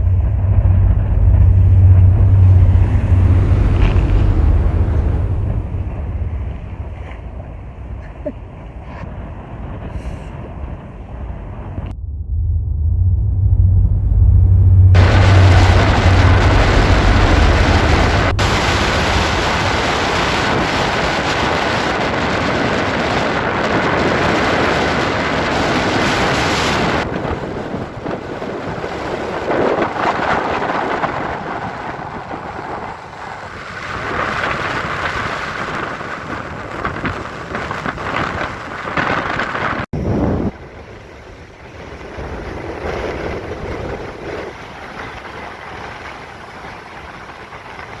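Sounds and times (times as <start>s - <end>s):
rain pouring in wind: 0.0s - 7.1s, 14.6s - 48.0s.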